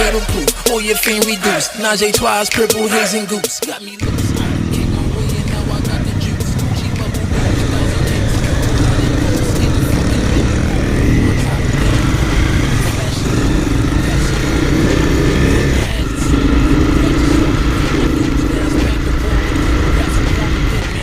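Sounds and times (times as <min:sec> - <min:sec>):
motorcycle engines running: 0:04.0 - 0:21.0.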